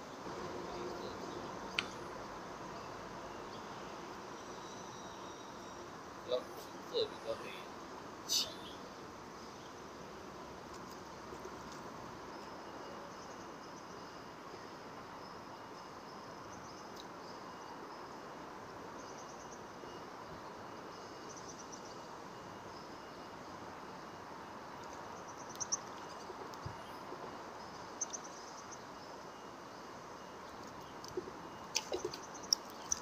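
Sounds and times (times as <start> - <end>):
faint steady high tone: 0.0 - 10.5, 12.0 - 33.0
insect chirping trills: 0.0 - 33.0.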